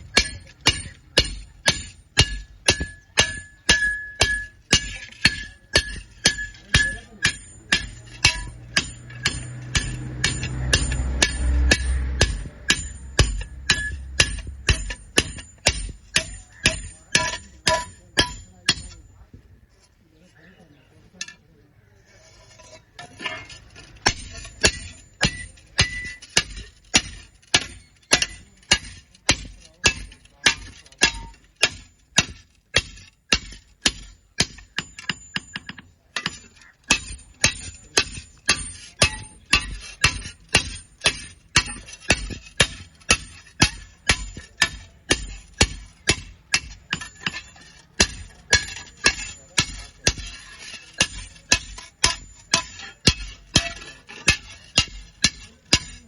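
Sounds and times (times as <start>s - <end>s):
hammer striking iron: 0.0s - 19.3s, 22.4s - 56.0s.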